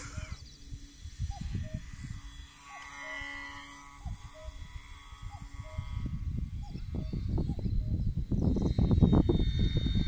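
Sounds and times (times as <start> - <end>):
faint electric motor whine: 0.0 - 10.0
wind gusting on microphone: 0.0 - 10.0.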